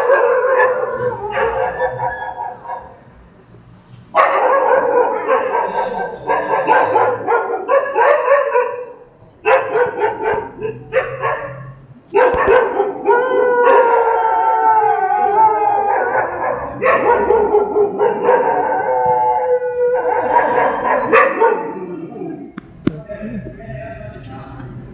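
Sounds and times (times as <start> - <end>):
dogs howling: 0.0 - 3.0, 4.3 - 22.6
dogs barking: 0.0 - 3.1, 4.1 - 22.5.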